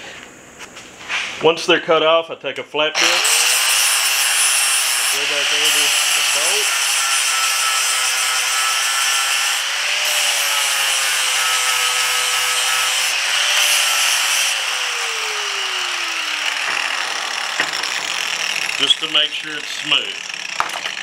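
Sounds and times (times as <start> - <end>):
angle grinder grinding steel: 3.0 - 21.0.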